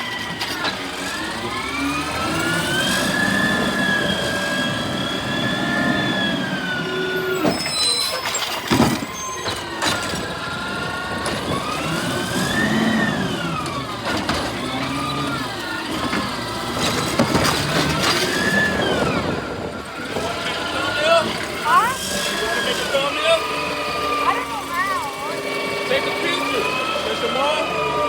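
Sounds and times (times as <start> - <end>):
garbage truck whine: 0.0 - 28.0.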